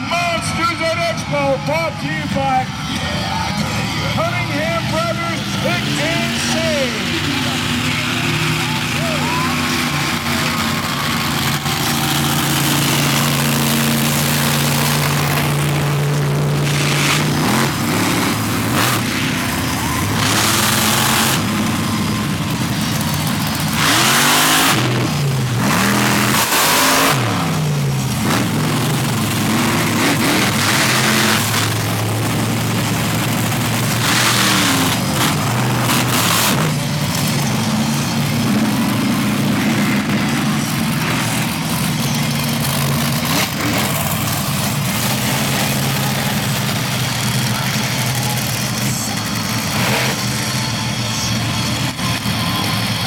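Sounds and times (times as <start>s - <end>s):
truck engines idling and revving: 0.0s - 53.0s.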